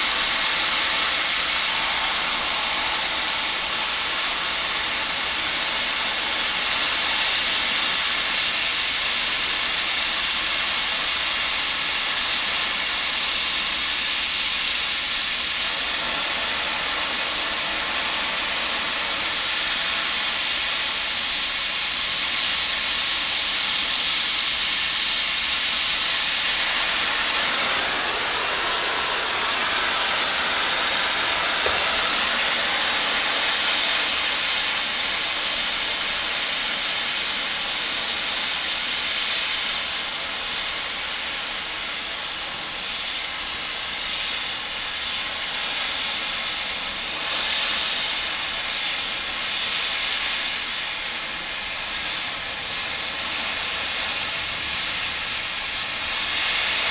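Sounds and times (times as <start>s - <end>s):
arc welding hiss: 0.0s - 56.9s.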